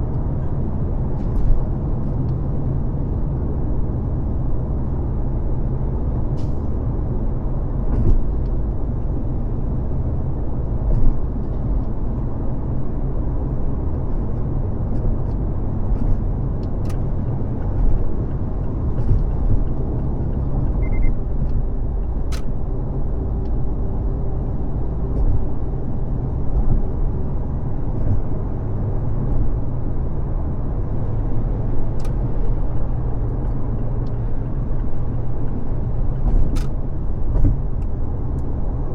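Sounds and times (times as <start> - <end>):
tyre and engine rumble: 0.0 - 38.9.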